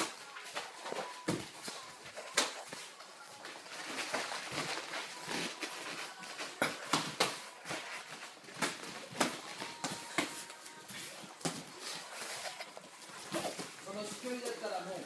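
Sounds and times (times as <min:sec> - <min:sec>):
feet moving on mats: 0:00.0 - 0:14.9.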